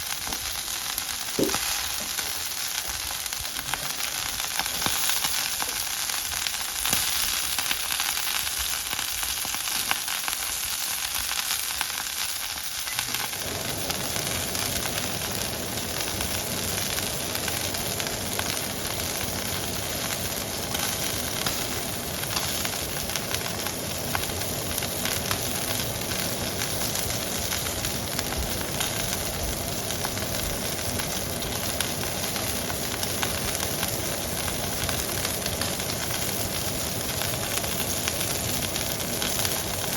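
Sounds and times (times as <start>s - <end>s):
steak sizzling in a pan: 0.0s - 39.9s.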